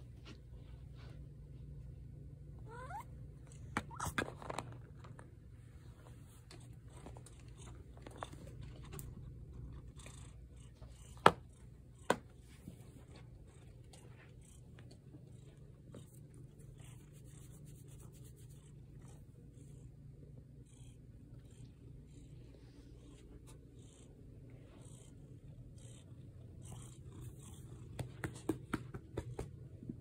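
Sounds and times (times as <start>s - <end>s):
cat purring: 5.8s - 30.0s.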